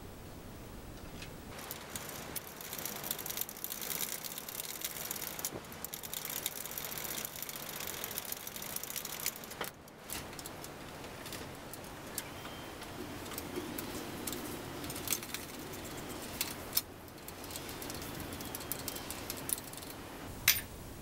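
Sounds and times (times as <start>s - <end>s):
metal fittings clicking and rattling: 1.5s - 12.3s, 13.2s - 20.7s.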